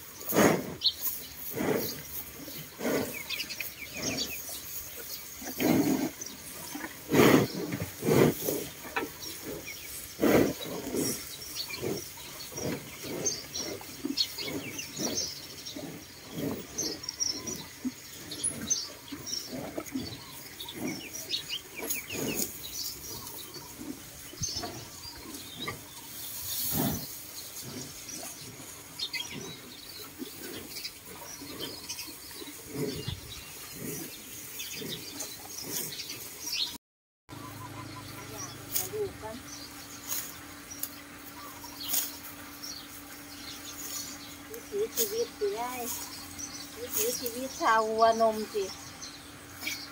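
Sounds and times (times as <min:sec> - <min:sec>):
cows chewing hay: 0:00.0 - 0:49.9
small birds chirping: 0:00.0 - 0:49.9.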